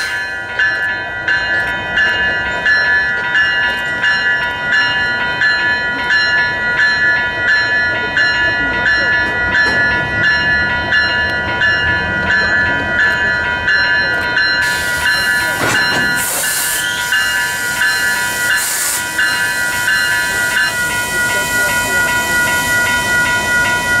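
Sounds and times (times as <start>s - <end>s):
diesel locomotives idling: 0.0s - 24.0s.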